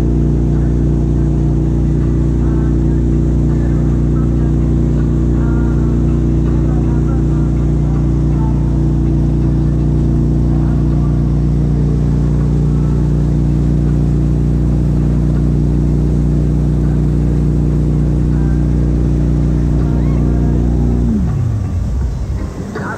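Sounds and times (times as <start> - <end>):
boat engine droning: 0.0 - 22.9
churning wake rushing: 0.0 - 22.9.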